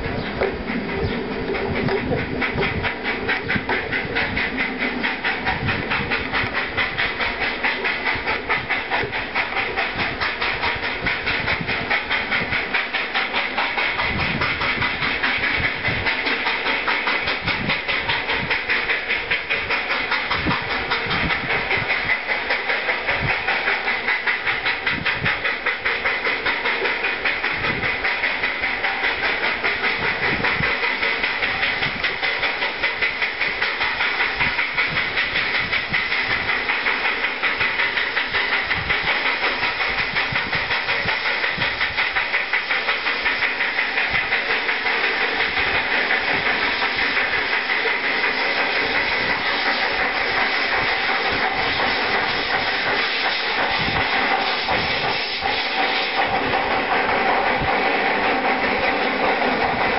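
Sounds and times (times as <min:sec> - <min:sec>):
steam hiss: 0:00.0 - 0:59.9
steam locomotive exhaust chuffs: 0:00.0 - 0:59.9.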